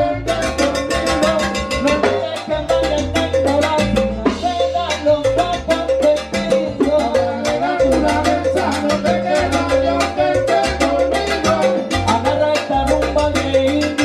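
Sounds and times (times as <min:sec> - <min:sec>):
drums and percussion: 0:00.0 - 0:14.0
live salsa band playing: 0:00.0 - 0:14.0
pulsing bass line: 0:00.0 - 0:14.0.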